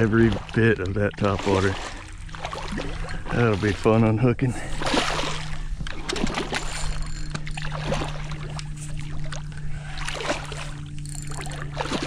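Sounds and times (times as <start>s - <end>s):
fish splashing in water: 0.0s - 3.9s, 4.6s - 12.0s
steady low hum: 0.0s - 12.0s.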